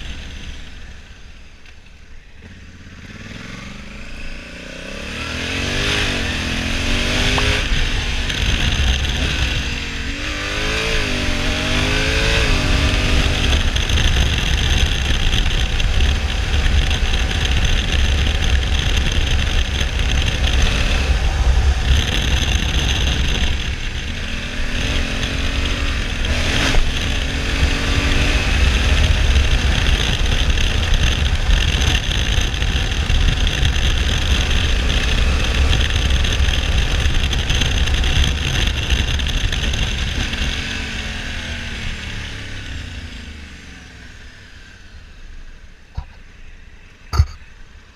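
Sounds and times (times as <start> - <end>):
motorcycle engine revving: 0.0 - 46.2
wind and road noise: 0.0 - 47.9.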